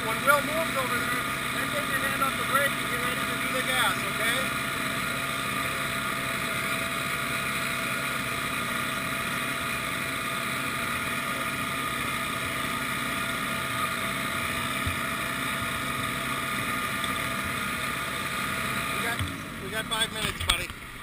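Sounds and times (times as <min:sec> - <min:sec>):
snowmobile engine idling: 0:00.0 - 0:21.0.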